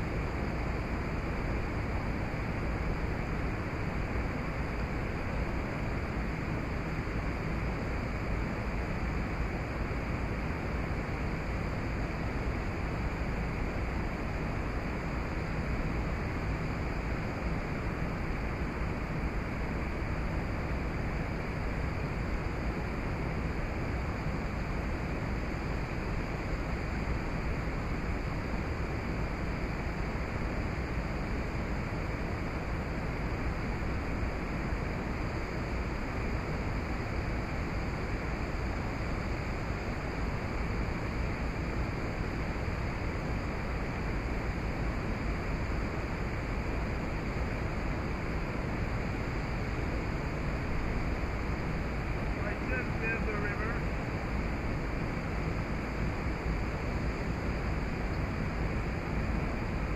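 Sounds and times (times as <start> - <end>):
outdoor rushing noise with low rumble: 0.0 - 59.9.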